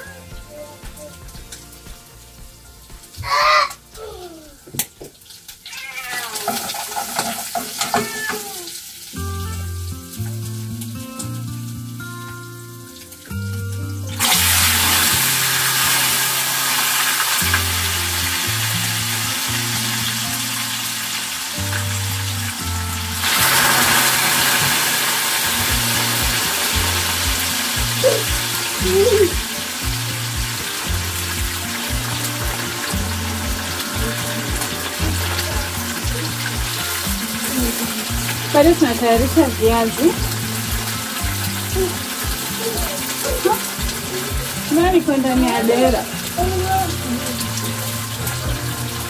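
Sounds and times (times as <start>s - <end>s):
background music with bass line: 0.0s - 4.6s, 9.2s - 49.0s
food sizzling in hot oil: 0.0s - 49.0s.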